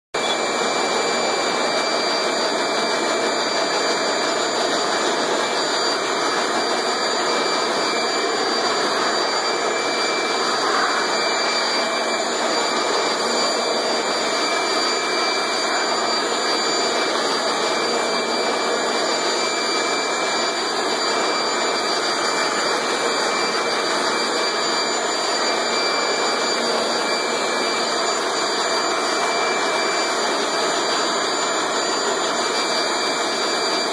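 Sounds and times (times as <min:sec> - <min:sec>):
leaf blower running: 0:00.2 - 0:33.9.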